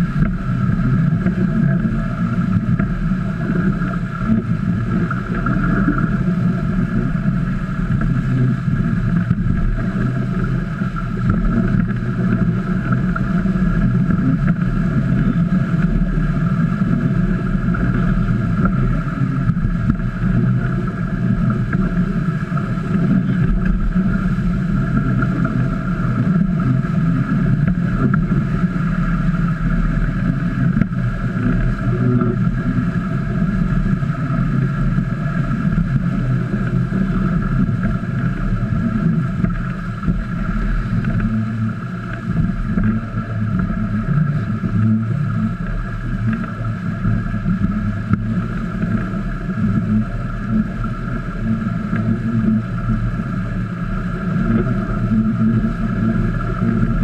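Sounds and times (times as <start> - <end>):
water streaming past hulls: 0.0 - 57.0
wind on microphone: 0.0 - 57.0.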